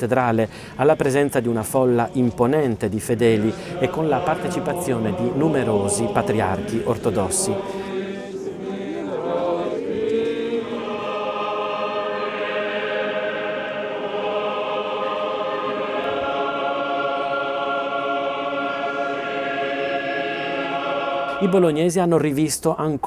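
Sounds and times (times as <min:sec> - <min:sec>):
choir singing unaccompanied: 0:00.8 - 0:21.9.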